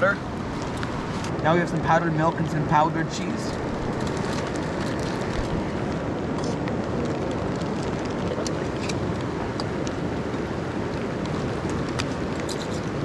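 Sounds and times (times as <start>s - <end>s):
heavy rain: 0.0s - 13.0s
raindrops ticking on surfaces: 0.0s - 13.0s
river cascading: 0.0s - 13.0s.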